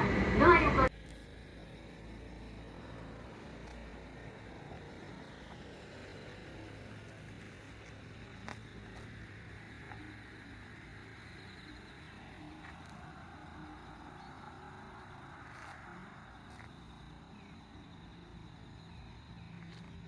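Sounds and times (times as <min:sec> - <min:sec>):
tram car hum and rumble: 0:00.0 - 0:20.0.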